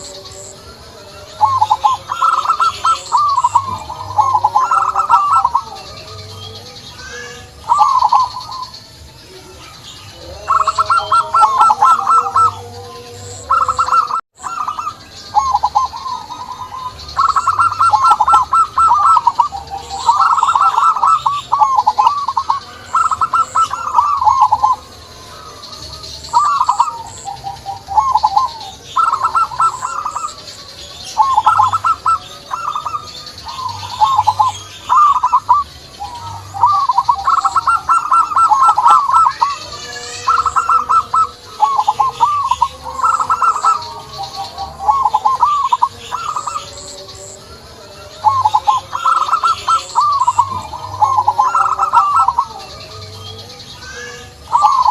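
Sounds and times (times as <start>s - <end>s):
dove cooing: 0.0s - 53.2s, 53.9s - 54.9s.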